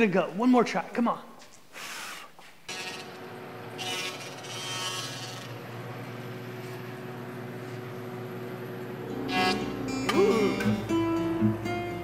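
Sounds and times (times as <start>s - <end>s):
machine hum: 2.0s - 12.0s.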